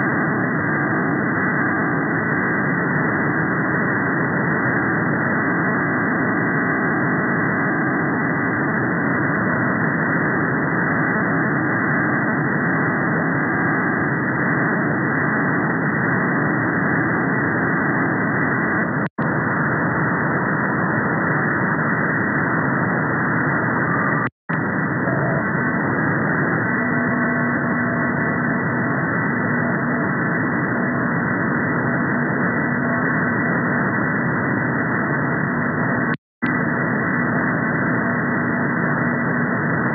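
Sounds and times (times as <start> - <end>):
dull rushing radio noise: 0.0 - 39.9.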